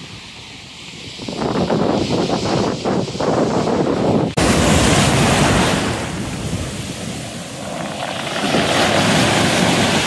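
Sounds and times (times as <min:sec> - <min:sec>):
small waves breaking on shore: 0:00.0 - 0:10.0
wind on microphone: 0:00.0 - 0:10.0.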